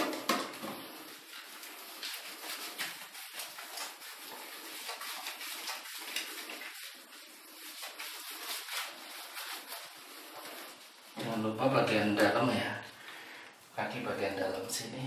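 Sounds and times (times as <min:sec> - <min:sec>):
wet rubbing of dog fur: 0:00.2 - 0:12.6.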